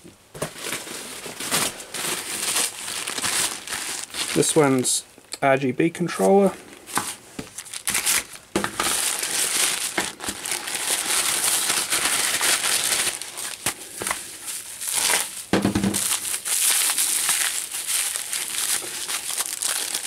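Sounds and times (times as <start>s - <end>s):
plastic packaging crinkling: 0.4s - 5.0s, 6.2s - 20.0s.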